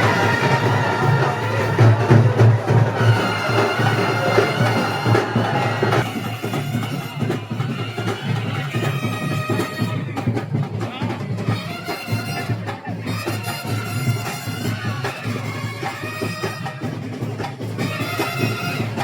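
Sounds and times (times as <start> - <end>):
wind instruments holding notes: 0.0 - 10.8, 11.4 - 19.0
steady drumming: 0.0 - 19.0.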